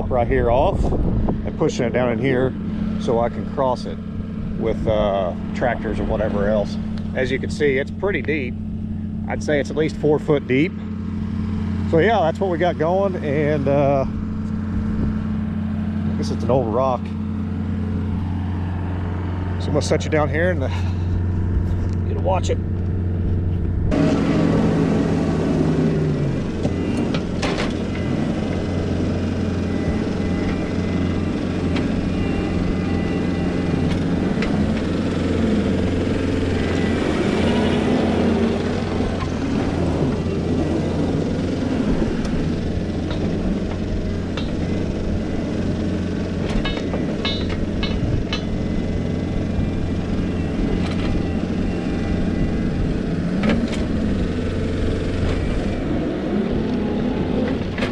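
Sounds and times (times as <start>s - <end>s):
diesel engine under load: 0.0s - 57.9s.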